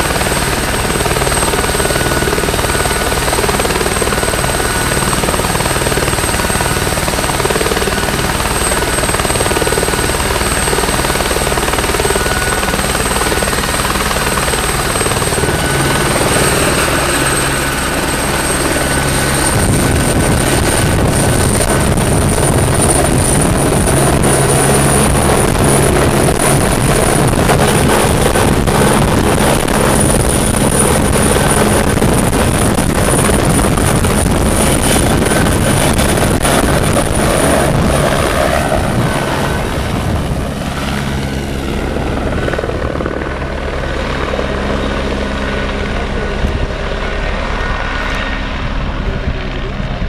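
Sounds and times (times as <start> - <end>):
helicopter rotor noise: 0.0 - 50.0
helicopter turbine whine: 0.0 - 50.0.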